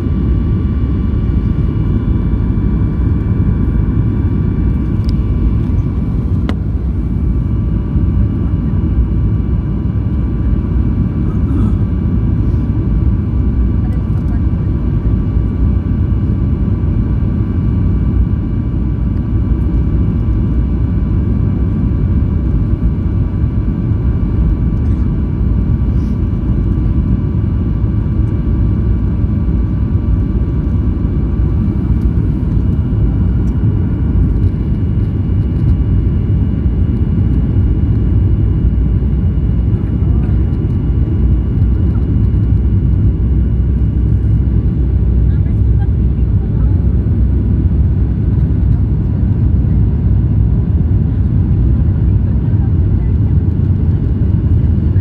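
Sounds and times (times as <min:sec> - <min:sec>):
jet engine rumble in cabin: 0:00.0 - 0:55.0.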